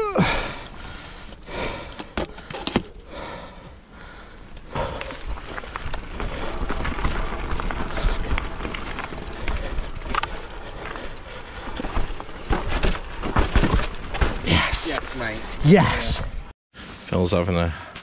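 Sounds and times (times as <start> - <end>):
bike tyres rolling over dirt: 0.2 - 16.5.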